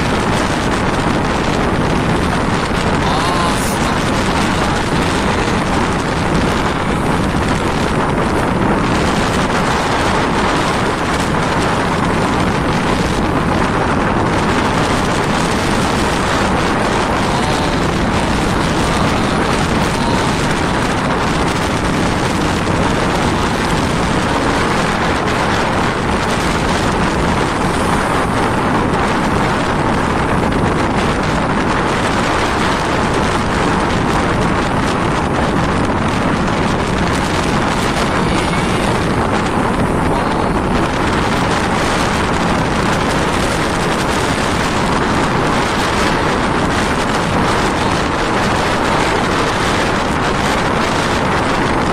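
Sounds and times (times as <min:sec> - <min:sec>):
strong wind buffeting microphone: 0:00.0 - 0:51.9.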